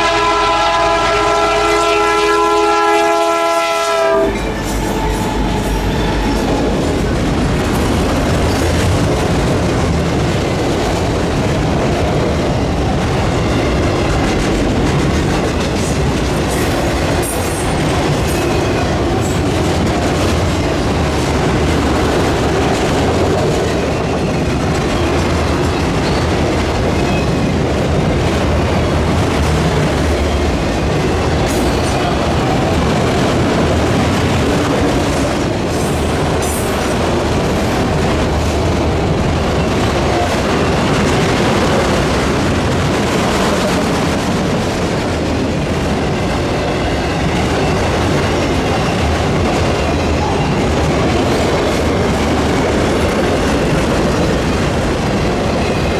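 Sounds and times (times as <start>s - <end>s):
freight train wheels rumbling: 0.0s - 55.9s
clickety-clack over track joints: 4.0s - 55.9s.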